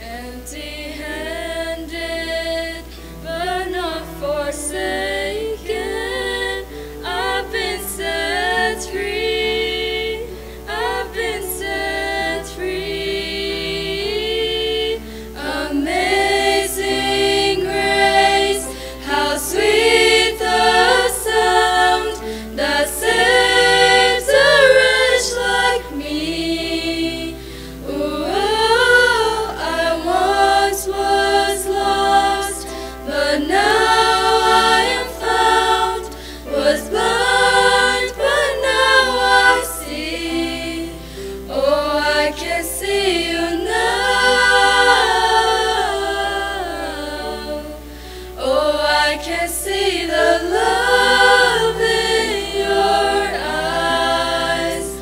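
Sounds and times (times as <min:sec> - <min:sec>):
girls singing a worship song: 0:00.0 - 0:55.0.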